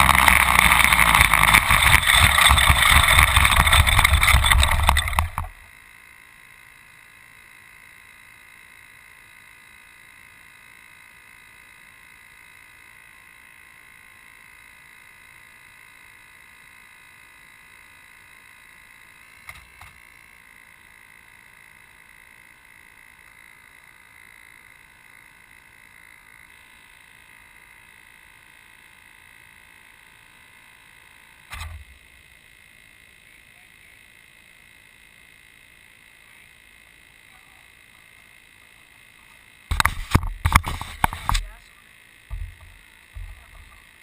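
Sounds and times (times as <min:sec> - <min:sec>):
faint high-pitched whine: 0:00.0 - 0:44.0.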